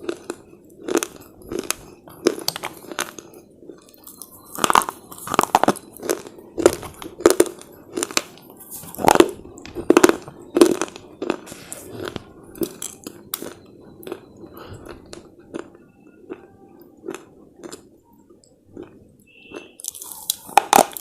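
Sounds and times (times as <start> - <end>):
slate chips crunching in mouth: 0.0 - 15.7, 17.0 - 17.9, 18.8 - 21.0.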